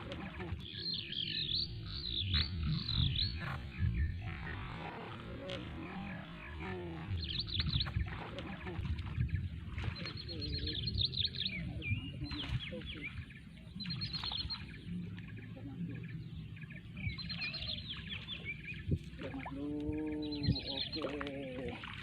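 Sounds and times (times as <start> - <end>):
low rumble: 0.0 - 21.3
birds chirping: 0.0 - 22.0.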